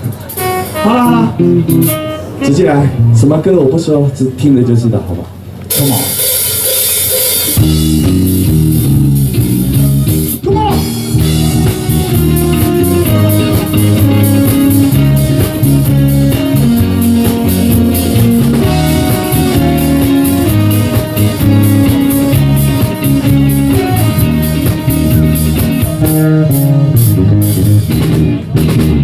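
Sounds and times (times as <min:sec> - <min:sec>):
drum kit beat: 0:00.0 - 0:02.4, 0:05.7 - 0:29.0
electric guitar: 0:00.0 - 0:03.2, 0:05.4 - 0:29.0.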